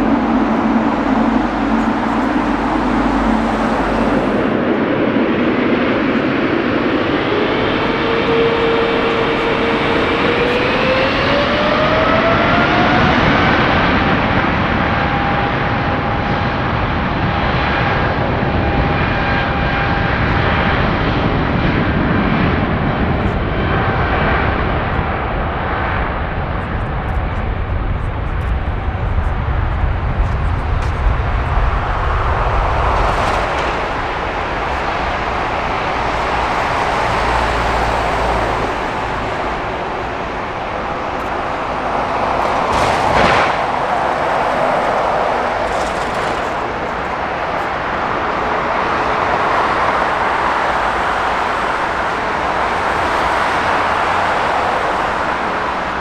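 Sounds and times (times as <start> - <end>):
jet airliner engines rushing: 0.0 - 56.0.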